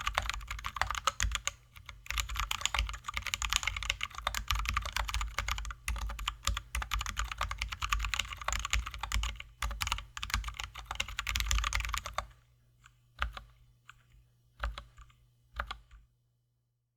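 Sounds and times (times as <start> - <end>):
typing on mechanical keyboard: 0.0 - 12.4, 14.6 - 15.9.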